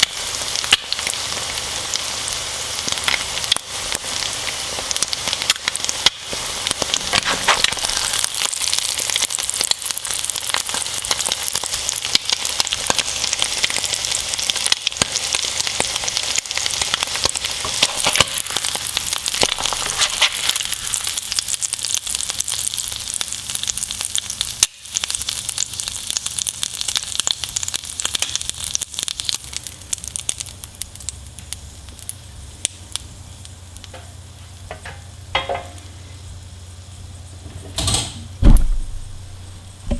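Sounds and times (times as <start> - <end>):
bacon and eggs sizzling in a pan: 0.0 - 37.4.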